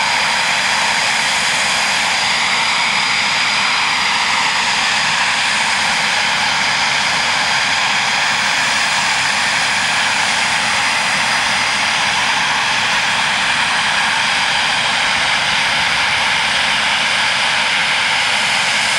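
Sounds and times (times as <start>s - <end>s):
jet engines running: 0.0s - 18.9s.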